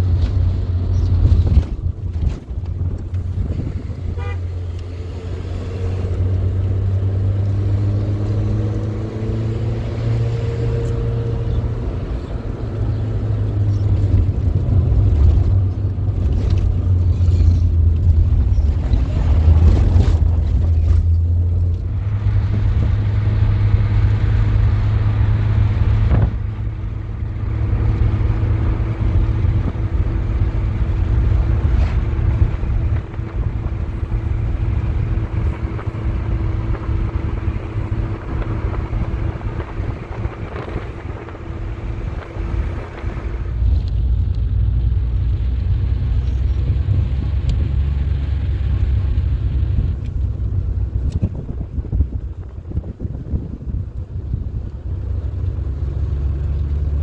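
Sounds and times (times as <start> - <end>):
vehicle engine and road drone: 0.0 - 57.0.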